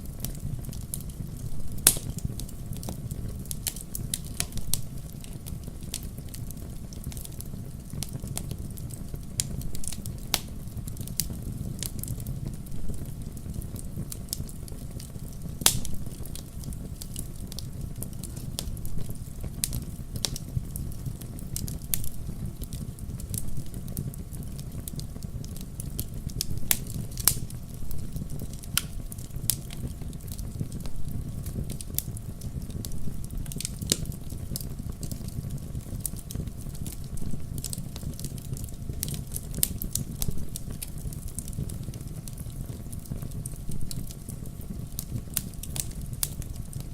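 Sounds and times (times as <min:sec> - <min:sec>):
low rumble of flames: 0:00.0 - 0:46.9
wood fire crackling: 0:00.0 - 0:46.9.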